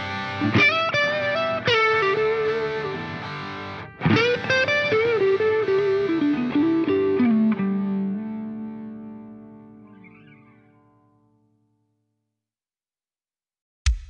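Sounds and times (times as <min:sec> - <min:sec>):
distorted electric guitar melody: 0:00.0 - 0:11.3.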